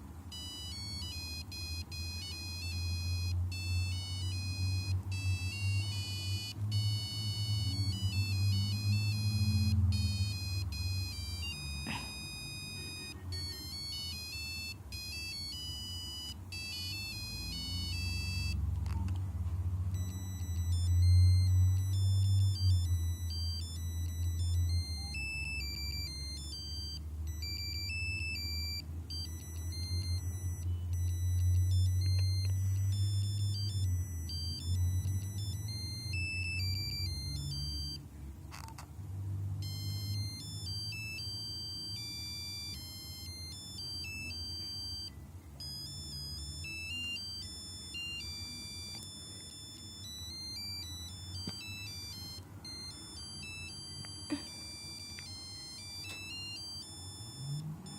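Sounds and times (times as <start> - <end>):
monophonic beeping ringtone: 0.3 - 57.9.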